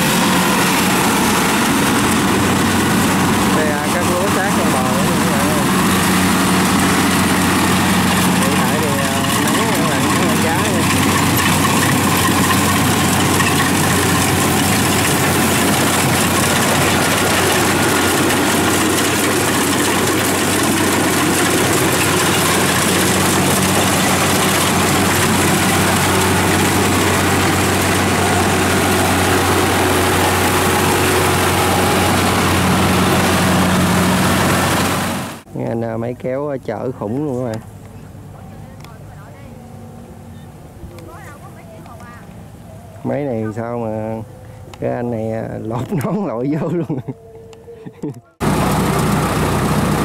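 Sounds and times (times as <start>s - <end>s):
combine harvester engine running: 0.0s - 50.0s.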